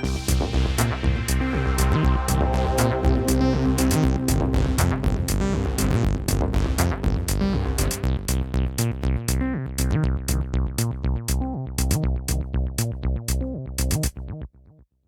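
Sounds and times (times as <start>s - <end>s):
electronic music with drum beat: 0.0s - 14.2s.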